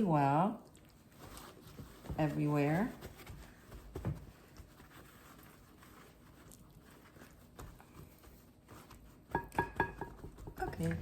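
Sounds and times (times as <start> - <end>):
paper towels patting and rustling: 0.8 - 11.0.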